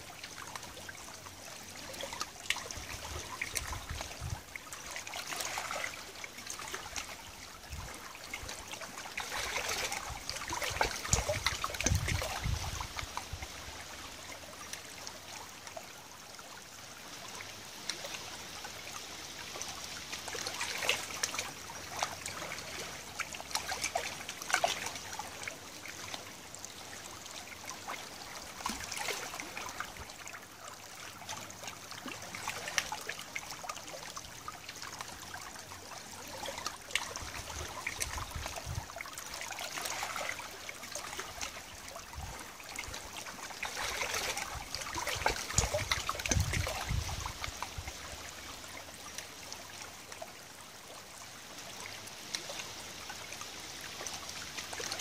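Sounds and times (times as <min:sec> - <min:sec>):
river water trickling and lapping: 0:00.0 - 0:55.0
small crackles and drips: 0:00.0 - 0:55.0.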